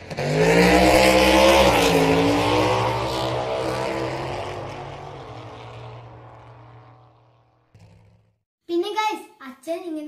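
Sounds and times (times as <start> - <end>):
sports car engine revving: 0.0 - 8.4.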